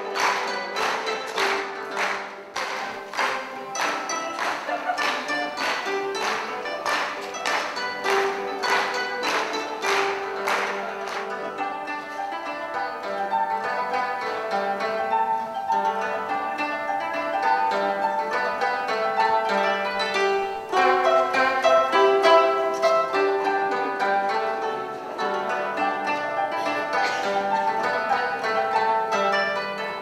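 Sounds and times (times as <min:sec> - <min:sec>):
plucked zither melody: 0:00.0 - 0:30.0.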